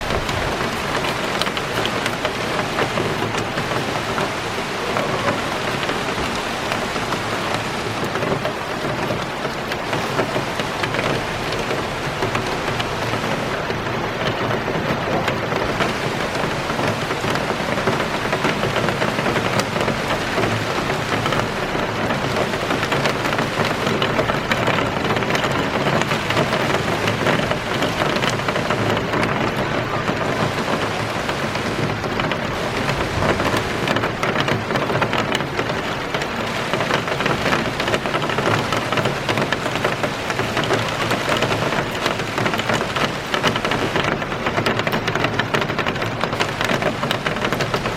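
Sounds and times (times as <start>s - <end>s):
heavy rain hissing: 0.0s - 47.9s
raindrops ticking: 0.0s - 47.9s.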